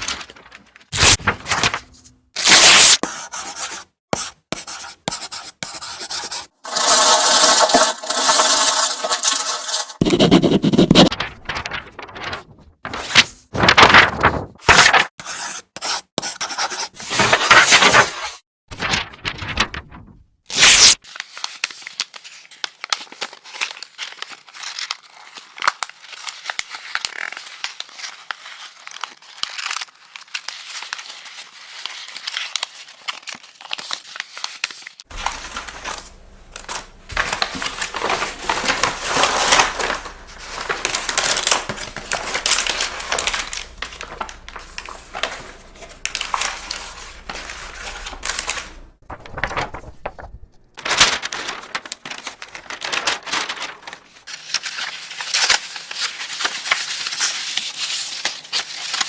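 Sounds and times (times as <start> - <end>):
paper crumpling: 0.0 - 3.0, 5.8 - 15.1, 17.0 - 59.0.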